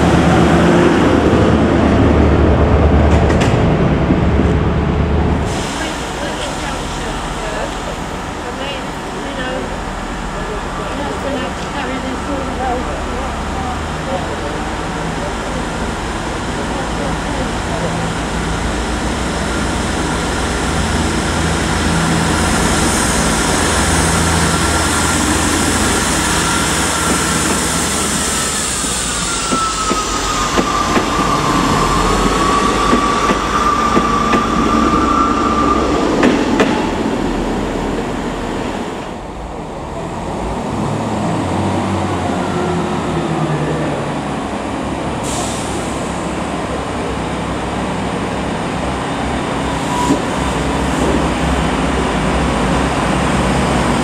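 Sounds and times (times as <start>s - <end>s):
diesel train engines working: 0.0s - 54.0s
rumble from the rails: 0.0s - 54.0s.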